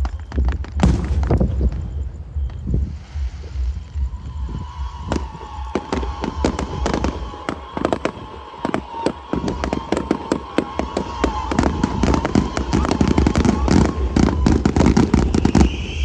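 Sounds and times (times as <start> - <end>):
fireworks banging: 0.0 - 16.0.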